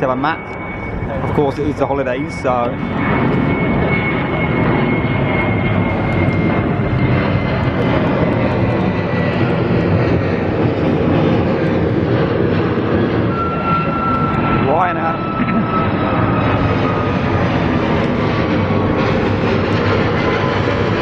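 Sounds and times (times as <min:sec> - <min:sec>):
jet engine whine: 0:00.0 - 0:21.0
jet engines roaring on takeoff: 0:00.0 - 0:21.0.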